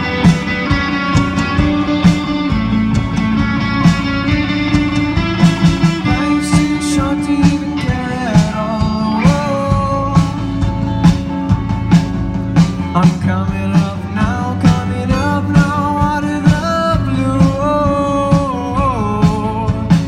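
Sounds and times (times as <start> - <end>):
song with guitar: 0.0 - 20.0
steady drum beat: 0.0 - 20.0.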